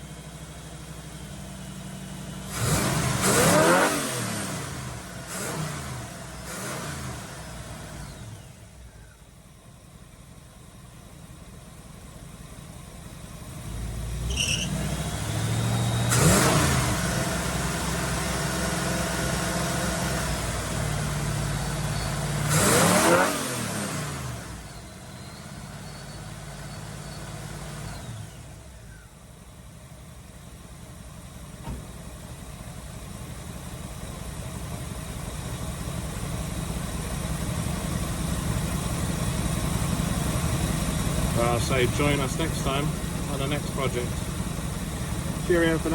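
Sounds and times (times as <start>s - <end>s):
car engine revving and idling: 0.0s - 45.9s.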